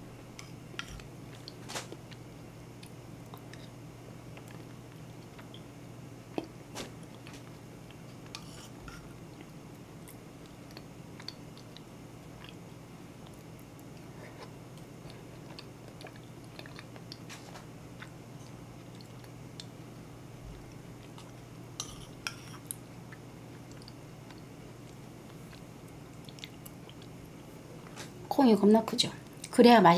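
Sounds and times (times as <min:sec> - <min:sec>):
steady low hum: 0:00.0 - 0:29.9
chewing and mouth sounds: 0:00.4 - 0:05.7, 0:06.3 - 0:28.0.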